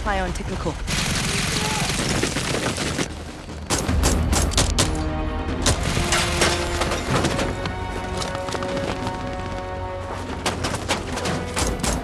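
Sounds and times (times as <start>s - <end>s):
tense music score: 0.0s - 12.0s.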